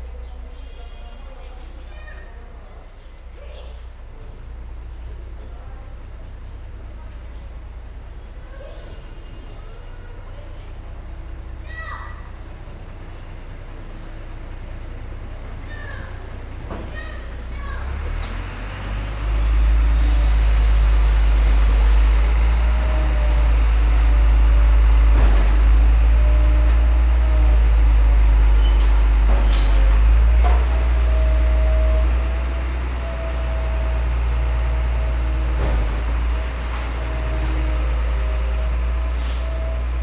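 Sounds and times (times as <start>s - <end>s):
large engine rumbling: 0.0s - 40.0s.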